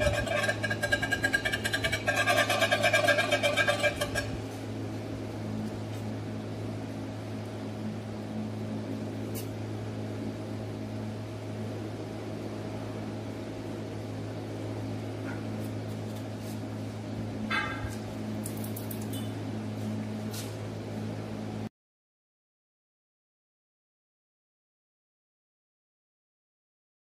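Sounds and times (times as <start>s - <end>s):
low machine hum: 0.0s - 21.7s.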